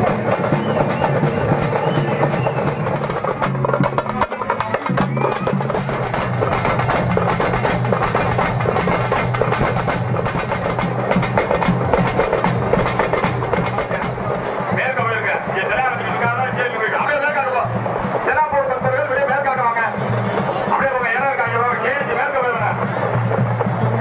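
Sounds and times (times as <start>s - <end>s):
frame drums beaten fast: 0.0s - 24.0s.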